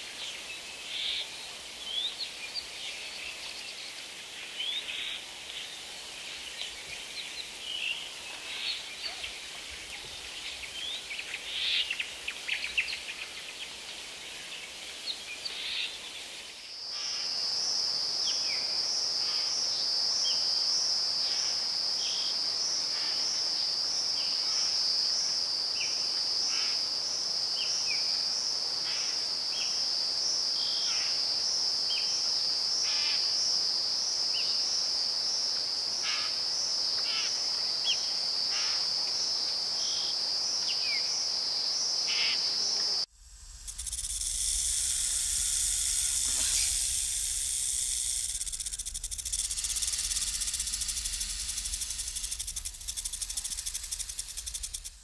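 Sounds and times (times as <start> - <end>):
high-pitched insect trill: 0.0 - 55.0.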